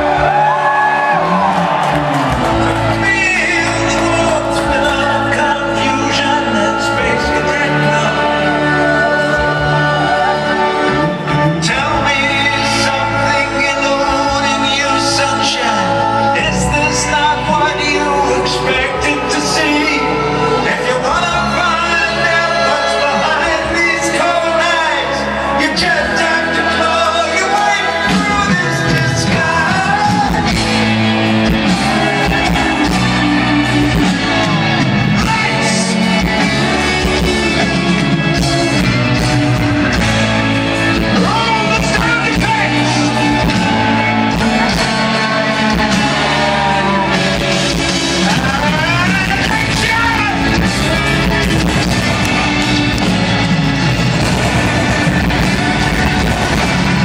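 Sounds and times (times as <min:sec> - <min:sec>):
person singing lead vocal: 0:00.0 - 0:53.5
live rock band playing: 0:00.0 - 0:57.0.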